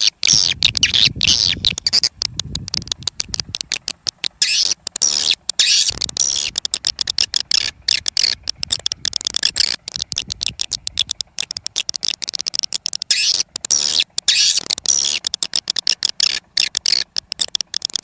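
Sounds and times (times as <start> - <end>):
swiftlet chirps and clicks: 0.0 - 18.0.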